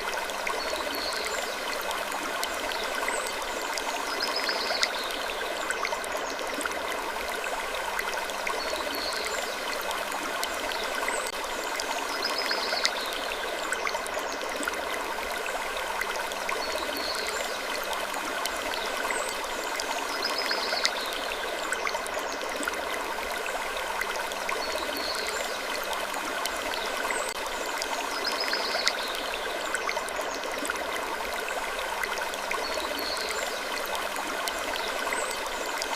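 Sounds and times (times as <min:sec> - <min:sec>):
trickling water: 0:00.0 - 0:35.9.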